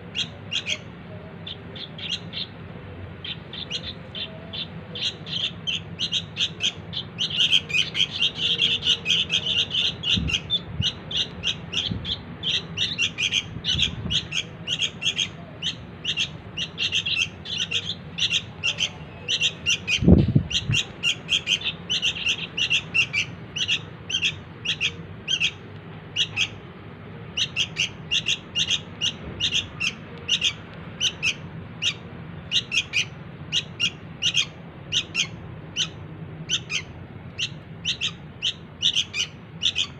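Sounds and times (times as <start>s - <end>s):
bird chicks chirping: 0.0s - 26.6s, 27.3s - 39.9s.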